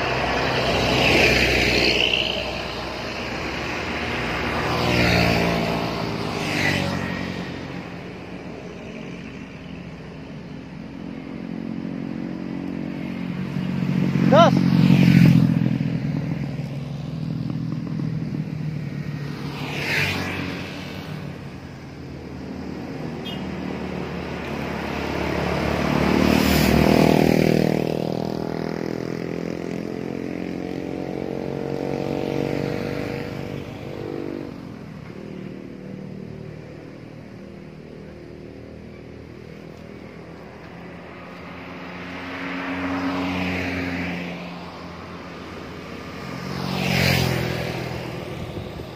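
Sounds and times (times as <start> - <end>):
car passing: 0.0 - 48.9
motorcycles passing: 0.0 - 48.9.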